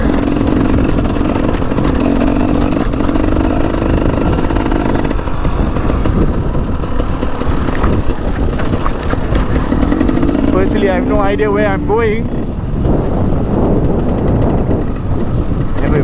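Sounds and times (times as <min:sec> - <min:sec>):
dirt bike engine revving: 0:00.0 - 0:16.0
sharp clatters: 0:00.0 - 0:16.0.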